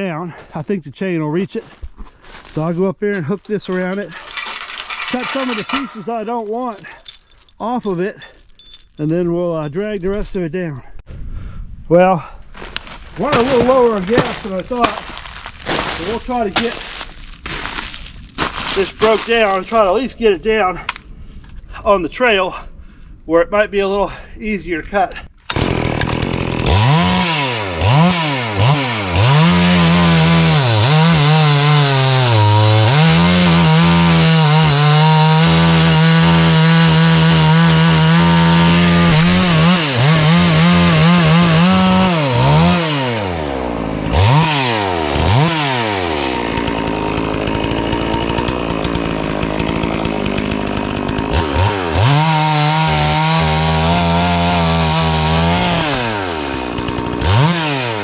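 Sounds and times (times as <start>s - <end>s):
chainsaw revving and cutting wood: 3.8s - 6.9s, 12.5s - 58.0s.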